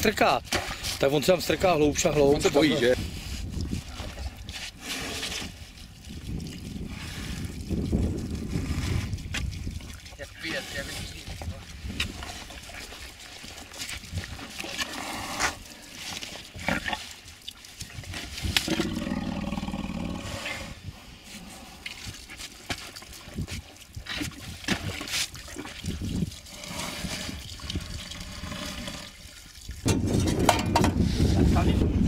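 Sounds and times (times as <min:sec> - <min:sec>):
water trickling from a bottle: 0:00.2 - 0:20.2, 0:20.9 - 0:31.3.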